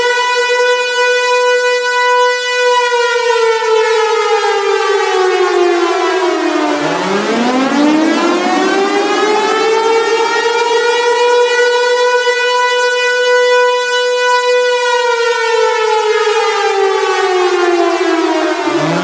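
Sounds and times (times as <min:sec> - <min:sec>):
air-raid siren wailing: 0:00.0 - 0:19.0.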